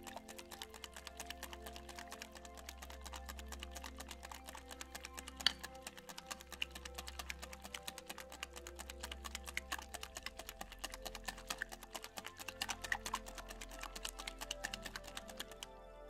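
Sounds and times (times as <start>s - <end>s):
whisk clicking in glass bowl: 0.0s - 15.7s
soft background music: 0.0s - 16.0s.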